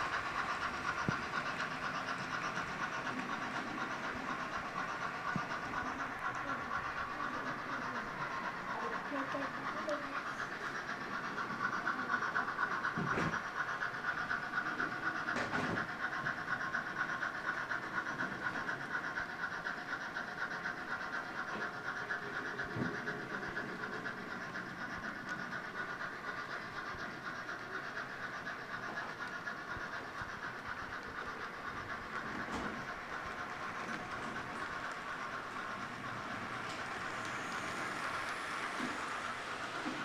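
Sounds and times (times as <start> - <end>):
model train wheels rattling on rails: 0.0 - 40.0.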